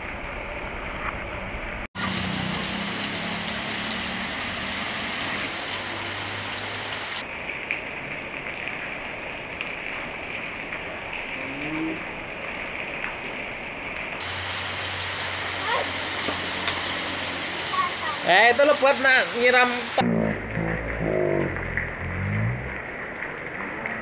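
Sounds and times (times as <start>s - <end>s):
heavy rain on pavement: 2.0s - 20.0s, 22.6s - 24.0s.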